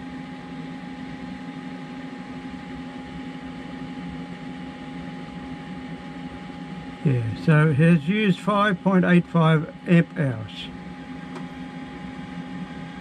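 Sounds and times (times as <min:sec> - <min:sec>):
electric fan humming and whining: 0:00.0 - 0:13.0.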